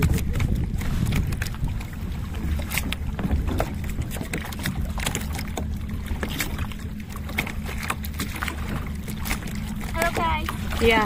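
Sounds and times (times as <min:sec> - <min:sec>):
water lapping and splashing: 0:00.0 - 0:11.0
wind rumble on microphone: 0:00.0 - 0:11.0.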